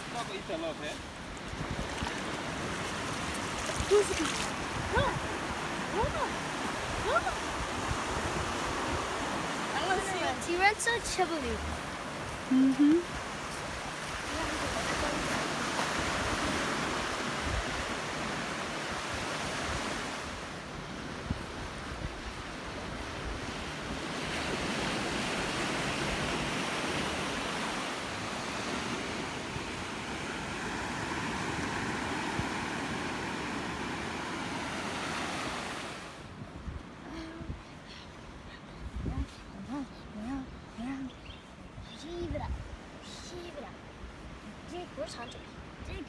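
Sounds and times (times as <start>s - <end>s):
wind buffeting microphone: 0.0s - 27.8s, 36.3s - 46.0s
ocean surf washing on beach: 0.0s - 46.0s.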